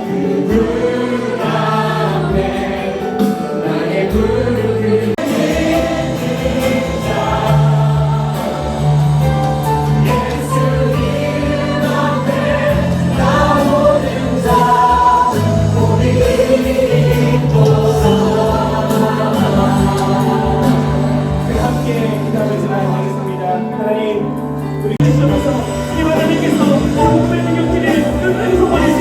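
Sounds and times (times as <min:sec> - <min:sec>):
choir singing a hymn: 0:00.0 - 0:29.0
instrumental accompaniment: 0:00.0 - 0:29.0.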